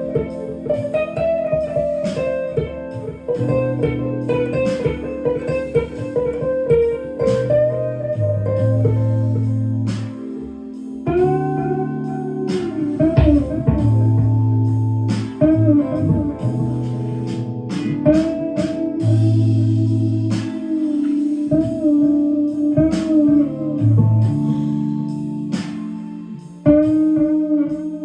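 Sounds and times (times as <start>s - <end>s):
clean electric guitar lead: 0.0s - 28.0s
low held bass notes: 0.0s - 28.0s.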